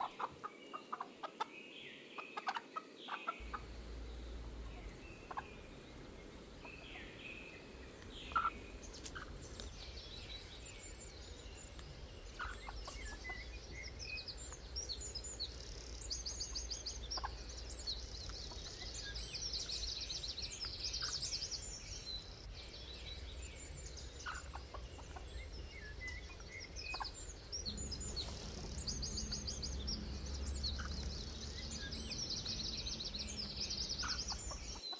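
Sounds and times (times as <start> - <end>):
songbirds chirping and trilling: 0.0 - 34.9
low steady rumble: 3.4 - 34.8.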